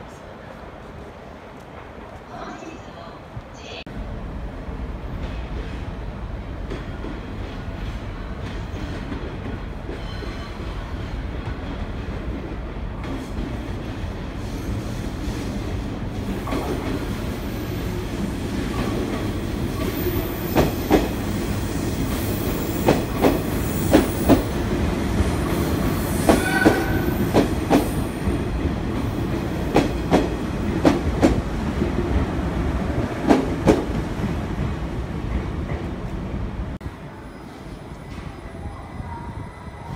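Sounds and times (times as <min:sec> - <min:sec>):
electric train rumbling: 0:00.0 - 0:39.9.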